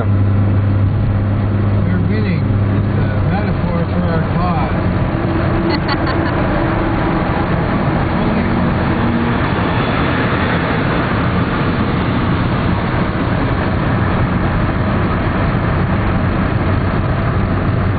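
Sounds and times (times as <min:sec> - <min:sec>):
highway road and engine noise: 0:00.0 - 0:17.9.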